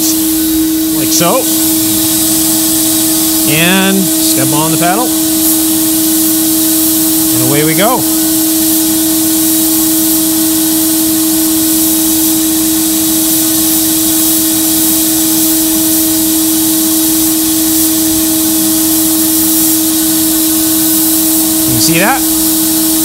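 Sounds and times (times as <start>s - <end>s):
blast gun hissing: 0.0s - 23.0s
vacuum humming: 0.0s - 23.0s.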